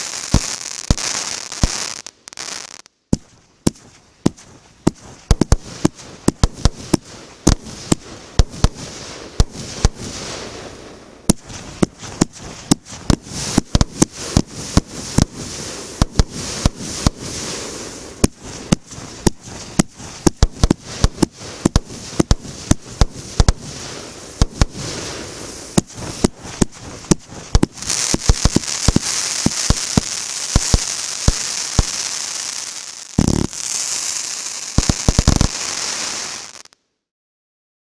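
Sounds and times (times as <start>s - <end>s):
fireworks crackling: 0.0s - 36.8s
fireworks shots: 0.0s - 36.8s.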